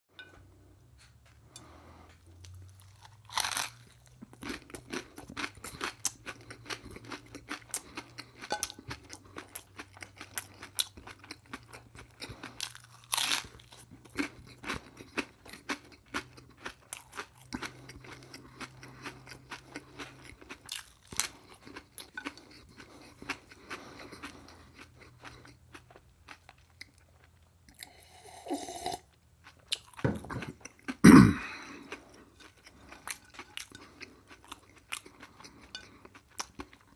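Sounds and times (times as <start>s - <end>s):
crunchy chewing: 1.6s - 28.0s, 29.4s - 36.9s.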